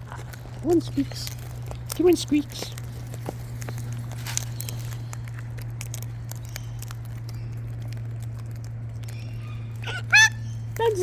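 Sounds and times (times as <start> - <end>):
faint clicks and scratches: 0.0 - 9.8
steady low hum: 0.0 - 11.0.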